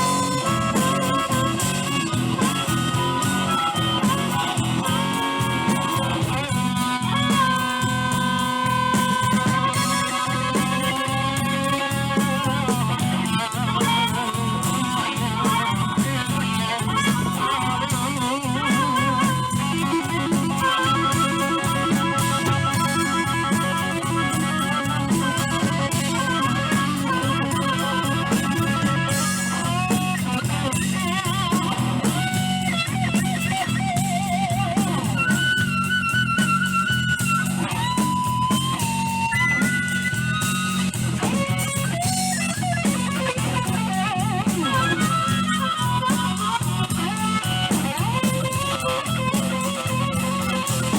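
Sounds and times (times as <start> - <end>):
lead line with vibrato: 0.0 - 50.9
live blues band playing: 0.0 - 50.9.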